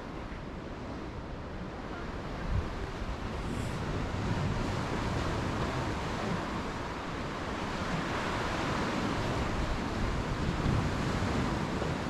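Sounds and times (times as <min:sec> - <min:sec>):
wind rumbling on microphone: 0:00.0 - 0:12.0
waves washing on concrete: 0:00.8 - 0:12.0.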